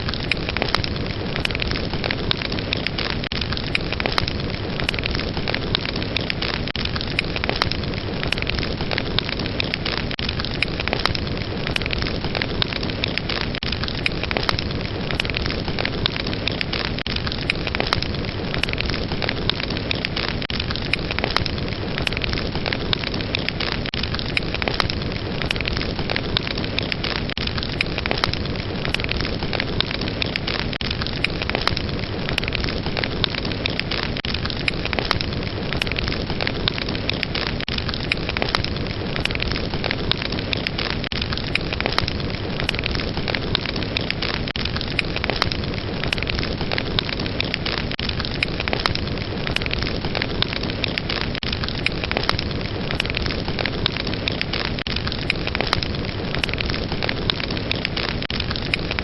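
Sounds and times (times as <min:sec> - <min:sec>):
wood fire hissing and crackling: 0:00.0 - 0:59.0.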